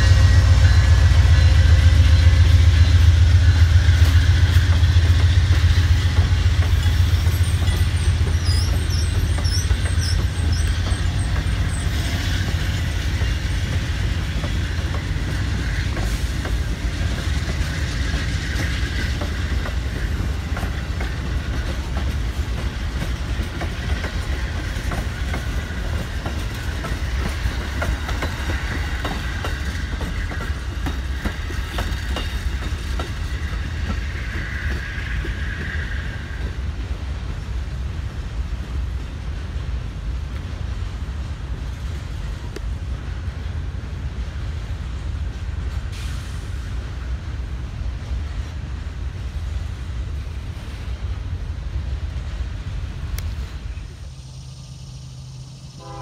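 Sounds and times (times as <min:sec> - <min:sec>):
train cars rumbling on track: 0:00.0 - 0:56.0.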